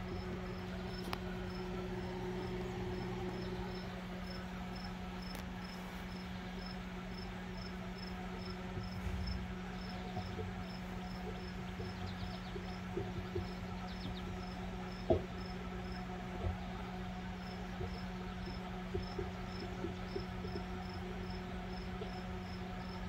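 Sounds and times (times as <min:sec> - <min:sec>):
microwave humming: 0:00.0 - 0:23.0.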